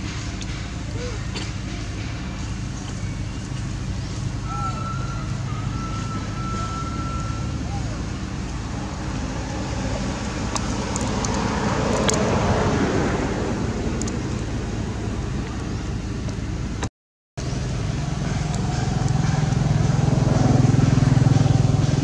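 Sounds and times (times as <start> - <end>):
vehicle passing: 0.0 - 16.8, 17.4 - 22.0
low engine hum: 0.0 - 22.0.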